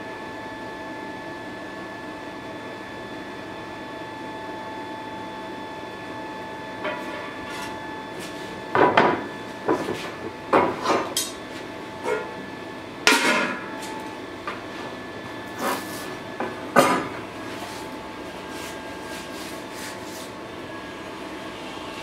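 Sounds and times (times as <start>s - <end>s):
forge burning hum: 0.0s - 22.0s.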